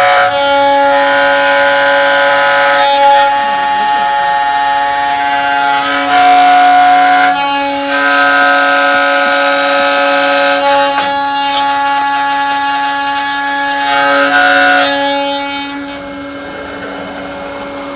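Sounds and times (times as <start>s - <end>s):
router spindle whine cutting wood: 0.0s - 17.9s.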